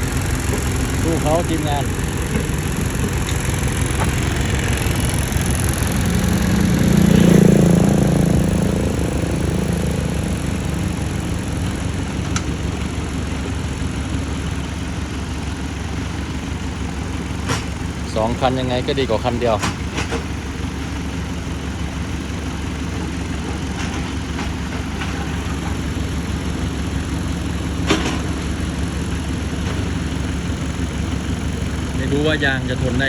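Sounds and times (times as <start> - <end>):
excavator engines running: 0.0 - 33.0.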